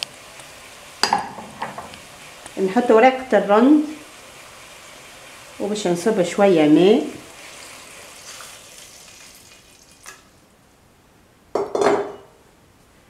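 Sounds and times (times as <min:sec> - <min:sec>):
water sizzling in hot pot: 0:00.0 - 0:10.5.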